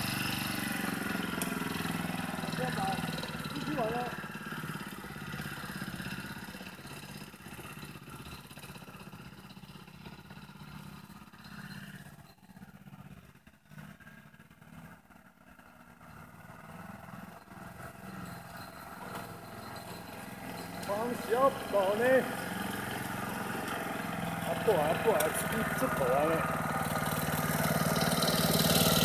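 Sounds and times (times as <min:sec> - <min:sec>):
car engine humming: 0:00.0 - 0:13.2, 0:15.9 - 0:29.0.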